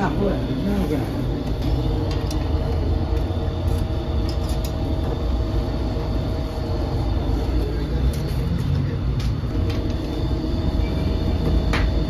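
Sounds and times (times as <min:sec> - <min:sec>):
oven fire roaring: 0:00.0 - 0:12.0.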